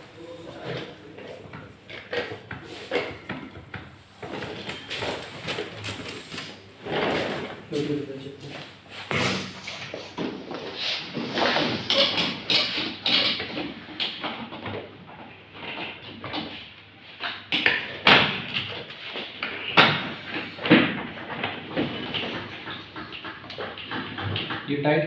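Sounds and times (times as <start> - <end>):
chair parts knocking and scraping: 0.0 - 24.7.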